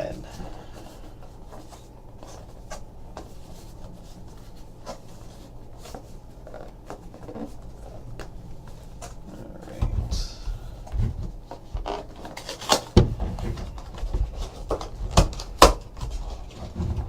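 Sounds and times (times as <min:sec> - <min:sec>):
cardboard and wrapping rustling: 0:00.0 - 0:17.0
low room hum: 0:00.0 - 0:17.0.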